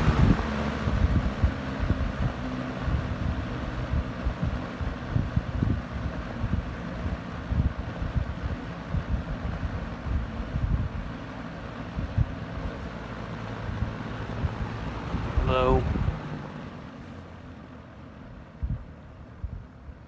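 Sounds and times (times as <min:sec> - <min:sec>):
wind buffeting microphone: 0:00.0 - 0:16.4, 0:18.6 - 0:19.9
box fan running: 0:00.0 - 0:20.0.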